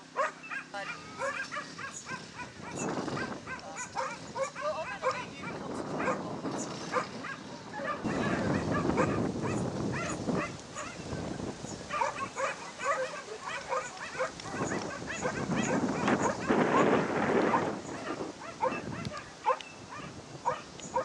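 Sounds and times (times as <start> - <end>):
dogs yipping and whining: 0.0 - 21.0.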